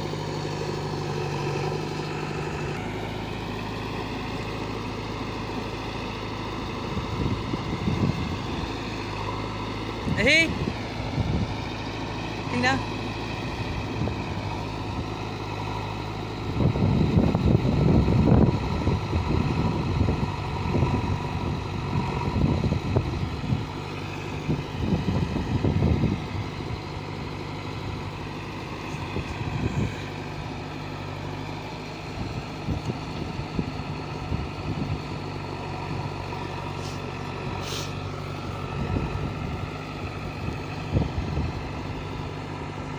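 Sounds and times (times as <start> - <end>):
diesel tractor engine running: 0.0 - 42.9.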